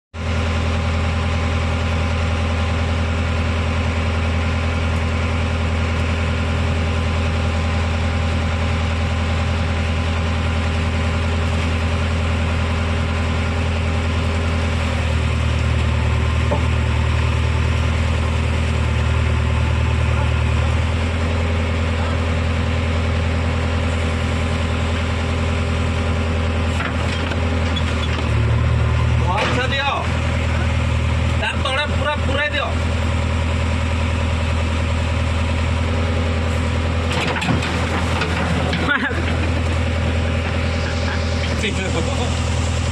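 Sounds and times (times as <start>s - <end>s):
diesel engine running low speed: 0.2s - 42.9s.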